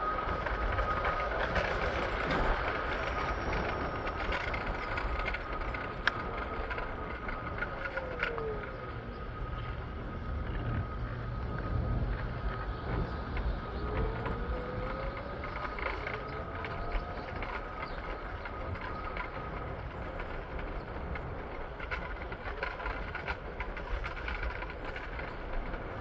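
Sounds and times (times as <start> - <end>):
faint steady whine: 0.0 - 26.0
vehicle rumbling: 0.0 - 26.0.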